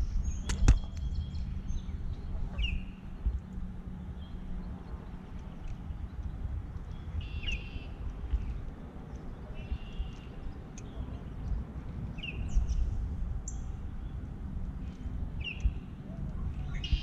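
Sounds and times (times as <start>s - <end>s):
songbird chirping: 0.0s - 12.9s, 13.5s - 17.0s
steady low rumble: 0.0s - 17.0s.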